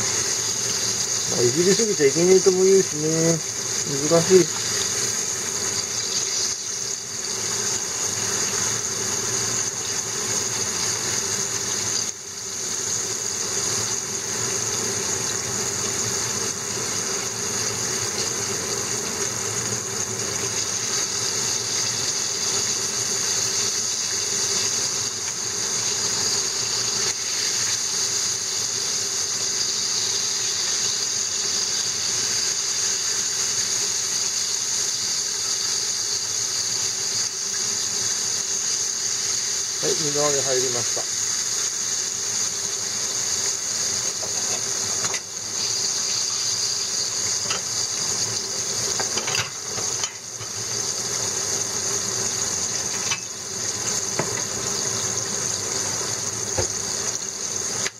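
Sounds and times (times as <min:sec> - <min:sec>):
oil sizzling while deep-frying fish: 0:00.0 - 0:57.9.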